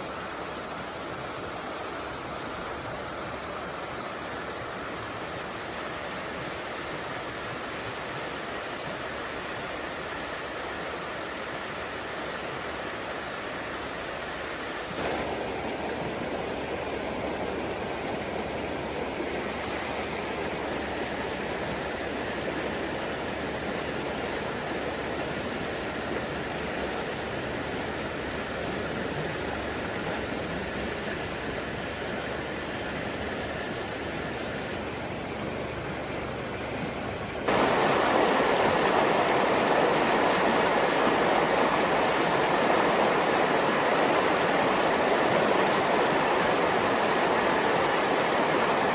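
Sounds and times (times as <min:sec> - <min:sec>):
running water rushing: 0:00.0 - 0:48.9.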